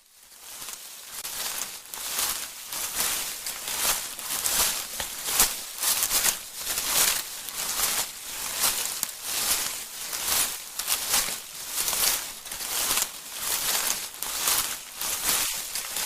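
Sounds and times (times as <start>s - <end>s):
footsteps on forest floor: 0.0s - 16.0s.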